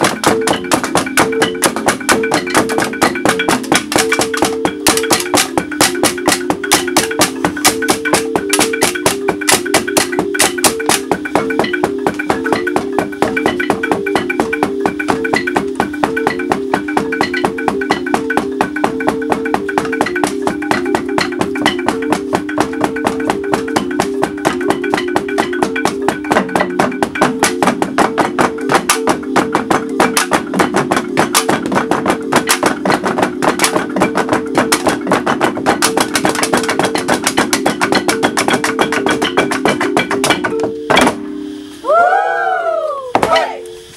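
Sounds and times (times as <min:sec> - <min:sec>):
fast clicking percussion: 0:00.0 - 0:41.3
bamboo instrument ensemble melody: 0:00.0 - 0:43.9.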